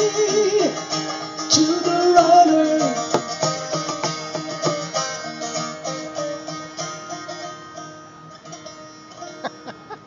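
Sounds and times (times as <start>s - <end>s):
guitar picking notes and chords: 0.0s - 10.0s.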